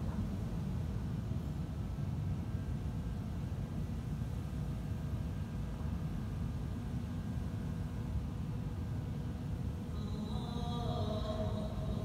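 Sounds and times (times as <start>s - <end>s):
faint hum: 0.0s - 12.0s
low room rumble: 0.0s - 12.0s.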